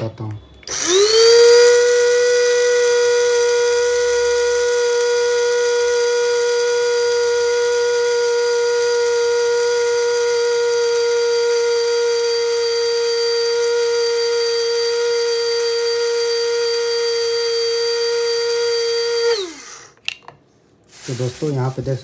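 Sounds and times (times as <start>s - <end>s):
electric spice grinder whining: 0.6s - 20.0s.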